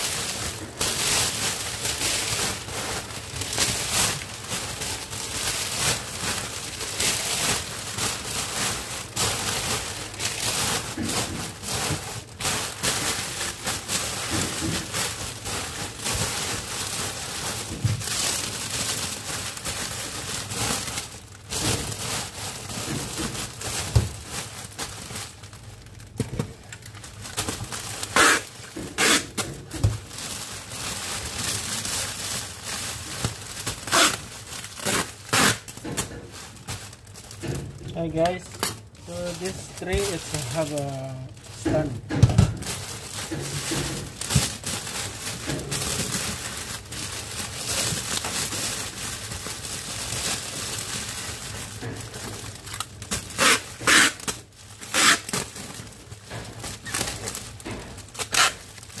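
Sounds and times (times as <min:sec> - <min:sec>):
cellophane wrap crinkling: 0:00.0 - 0:59.0.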